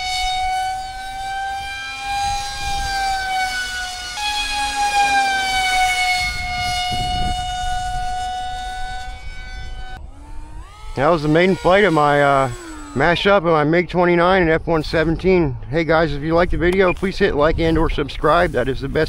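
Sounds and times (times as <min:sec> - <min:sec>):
electric jet motor whine: 0:00.0 - 0:18.7
wind noise on microphone: 0:00.0 - 0:19.0.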